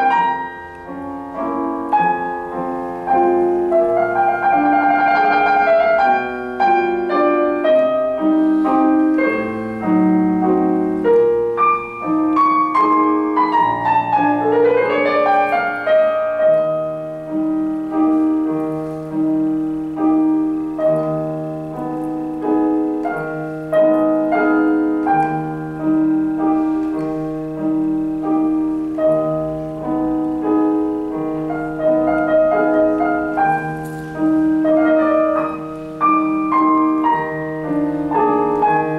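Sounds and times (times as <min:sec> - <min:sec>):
solo piano music: 0:00.0 - 0:38.9.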